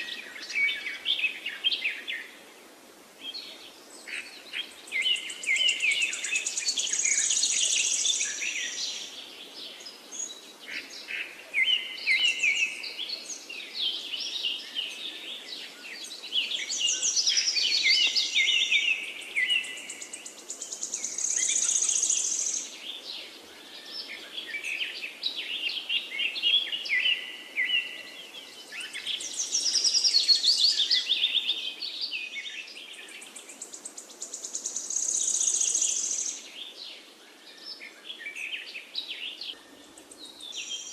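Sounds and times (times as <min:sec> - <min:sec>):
faint background hiss: 0:00.0 - 0:40.9
songbirds singing: 0:00.0 - 0:40.9.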